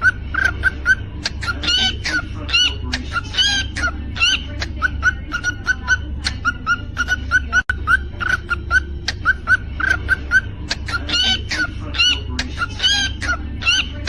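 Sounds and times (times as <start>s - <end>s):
cockatiel chirping and whistling: 0.0s - 14.0s.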